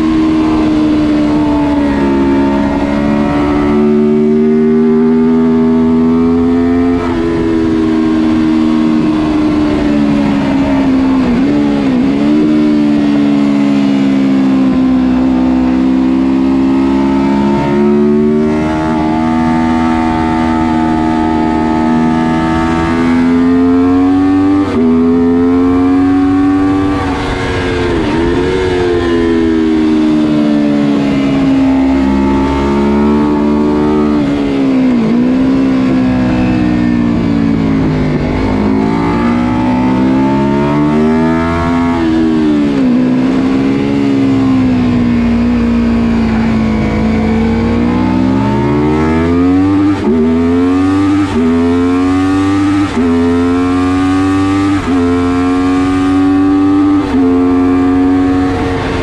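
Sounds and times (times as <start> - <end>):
motorcycle engine revving through gears: 0.0 - 59.0.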